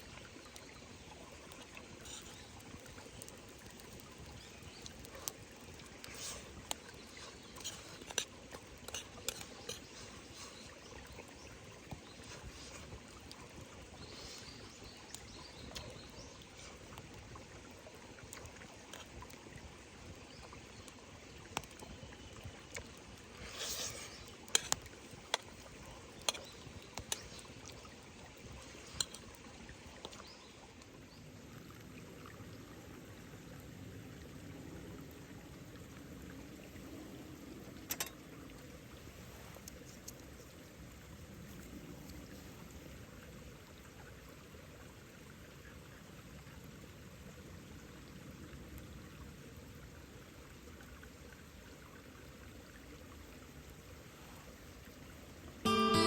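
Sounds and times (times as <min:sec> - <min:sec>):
rush of water: 0:00.0 - 0:55.7.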